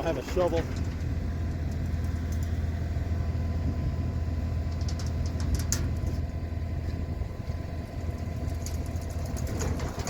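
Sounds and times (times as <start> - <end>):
farm vehicle engine idling: 0.0 - 10.0.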